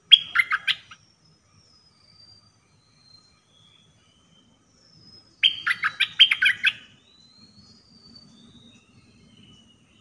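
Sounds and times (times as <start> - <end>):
faint bird whistles: 0.0 - 10.0
songbird singing rapid notes: 0.0 - 10.0.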